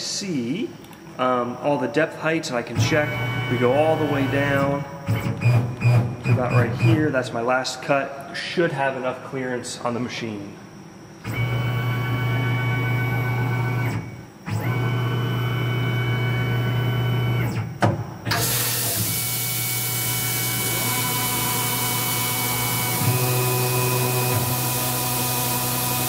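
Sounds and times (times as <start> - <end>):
mill humming and whining: 0.0 - 26.0.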